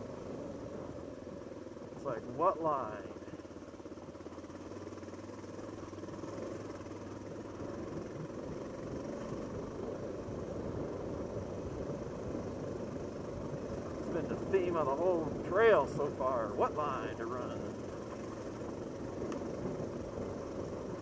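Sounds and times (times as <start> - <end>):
motorcycle engine running at low speed: 0.0 - 21.0.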